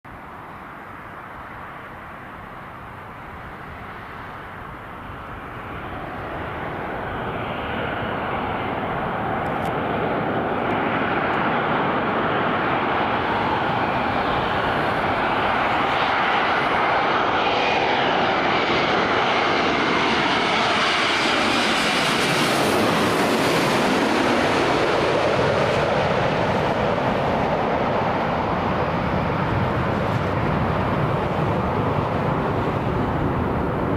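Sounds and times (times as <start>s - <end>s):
airliner jet engines passing overhead: 0.1s - 33.9s.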